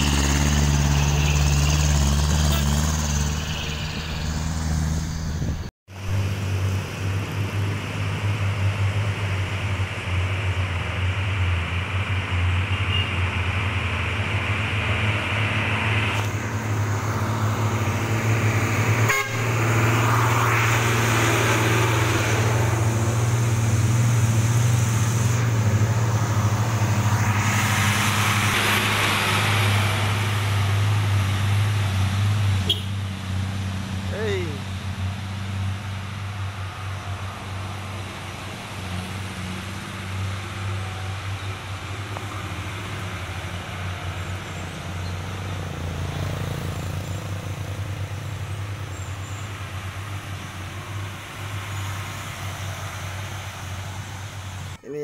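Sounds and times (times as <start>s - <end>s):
road noise: 0.0s - 55.0s
trucks driving by: 0.0s - 55.0s.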